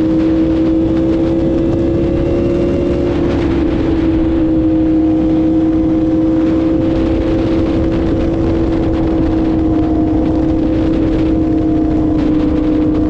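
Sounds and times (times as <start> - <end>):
motorcycle engine cruising: 0.0 - 13.0
wind noise: 0.0 - 13.0.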